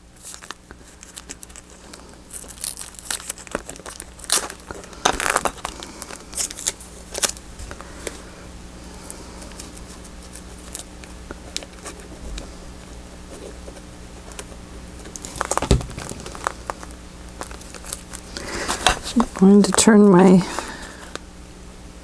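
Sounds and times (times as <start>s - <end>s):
paper and tape crinkling: 0.1s - 8.2s, 9.0s - 12.5s, 13.4s - 21.2s.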